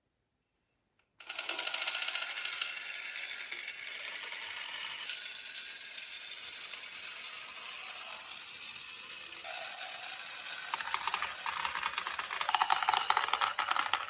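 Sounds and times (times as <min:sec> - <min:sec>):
marbles rolling down wooden run: 0:01.2 - 0:14.0.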